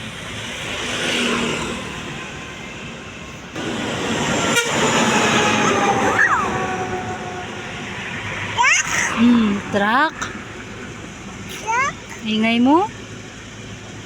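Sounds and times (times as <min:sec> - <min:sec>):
trucks passing on a road: 0:00.0 - 0:14.0.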